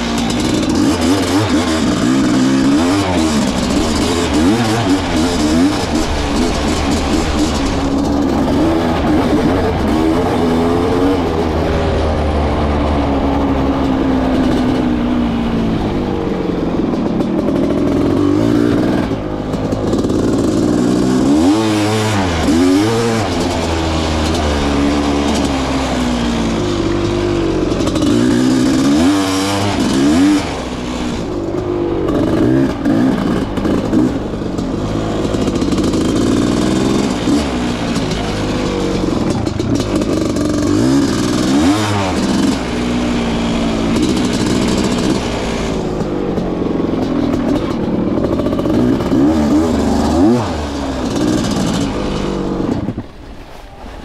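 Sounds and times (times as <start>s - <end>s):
two-stroke motorcycle engine revving: 0.0s - 53.3s.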